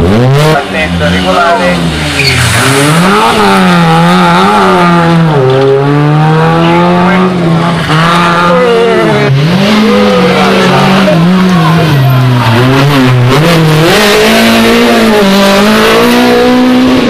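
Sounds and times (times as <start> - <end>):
rally car accelerating: 0.0 - 17.0
rally car engine revving: 0.0 - 17.0.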